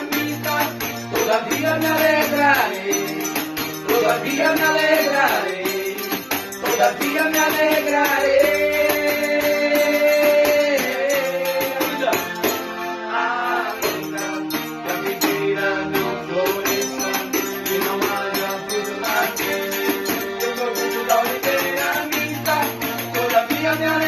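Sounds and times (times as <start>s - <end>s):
shakers or tambourine beat: 0.0s - 12.9s, 13.6s - 24.0s.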